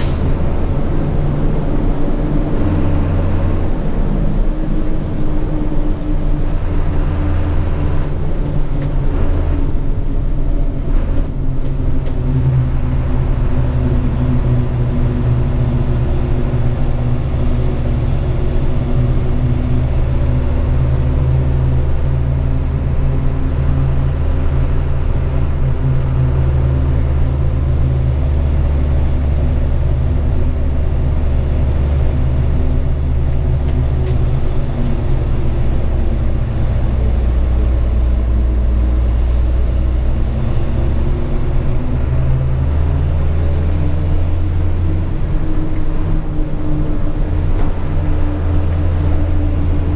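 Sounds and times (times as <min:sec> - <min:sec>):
diesel truck engine drone: 0:00.0 - 0:49.9.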